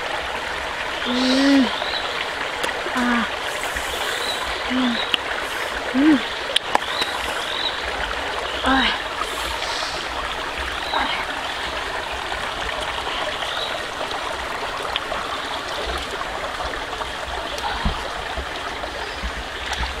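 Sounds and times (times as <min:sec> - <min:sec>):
rushing running water: 0:00.0 - 0:20.0.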